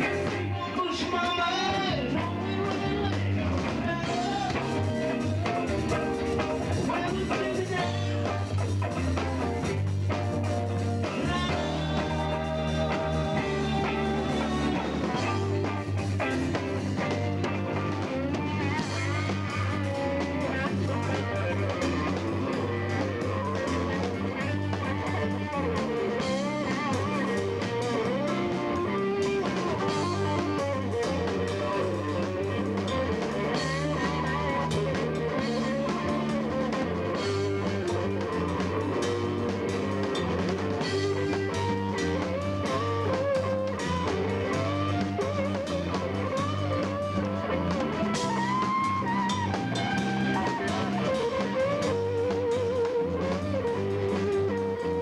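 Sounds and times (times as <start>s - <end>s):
blues-rock band playing: 0.0s - 55.0s
lead guitar bending notes: 0.0s - 55.0s.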